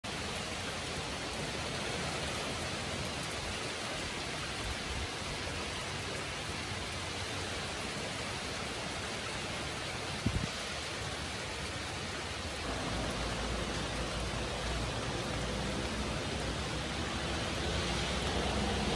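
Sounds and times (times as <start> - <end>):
rain falling on leaves: 0.0 - 18.9.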